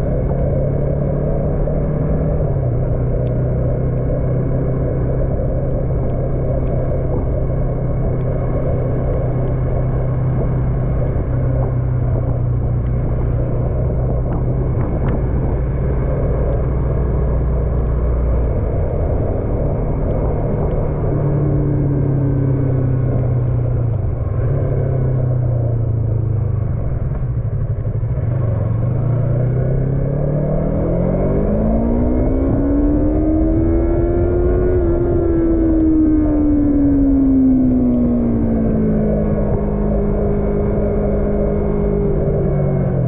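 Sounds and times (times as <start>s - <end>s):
motorcycle engine running: 0.0s - 43.0s
road noise: 0.0s - 43.0s
wind noise: 0.0s - 43.0s.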